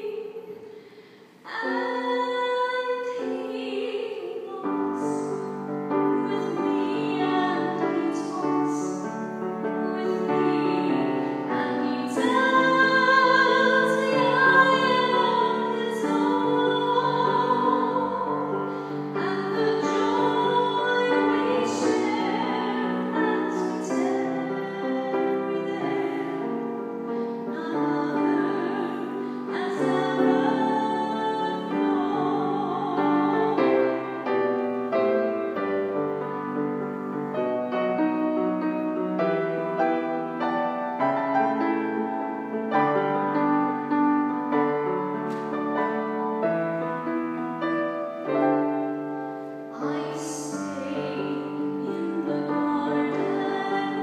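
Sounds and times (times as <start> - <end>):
piano accompaniment: 1.5 - 54.0.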